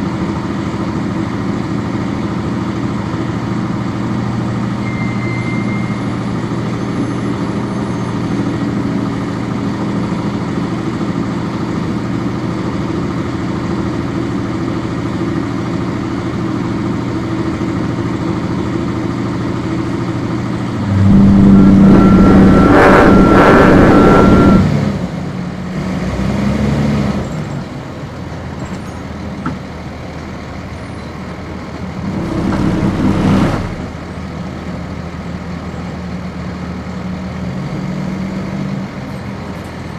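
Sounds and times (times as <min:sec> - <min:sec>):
bus diesel engine idling: 0:00.0 - 0:25.7, 0:27.2 - 0:39.9.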